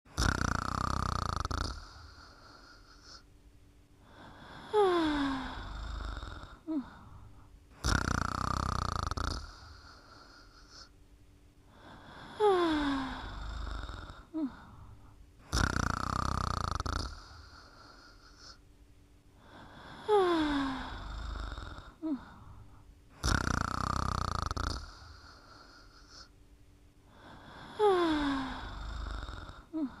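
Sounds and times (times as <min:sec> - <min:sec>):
rasping snore: 0:00.1 - 0:03.2, 0:04.1 - 0:07.0, 0:07.8 - 0:10.9, 0:11.8 - 0:14.6, 0:15.4 - 0:18.6, 0:19.4 - 0:22.3, 0:23.2 - 0:26.3, 0:27.2 - 0:30.0
quiet breathing: 0:00.1 - 0:30.0.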